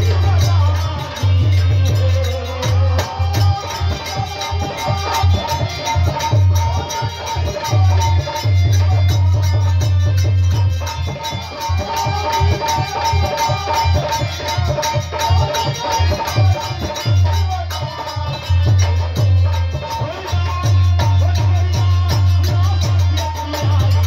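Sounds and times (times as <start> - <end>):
harmonium melody: 0.0 - 24.0.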